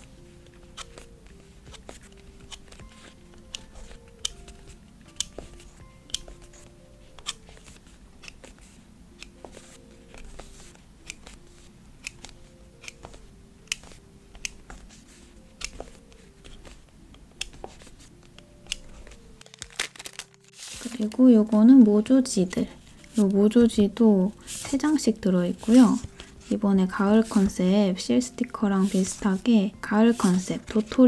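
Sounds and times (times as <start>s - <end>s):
soft background music: 0.0s - 31.0s.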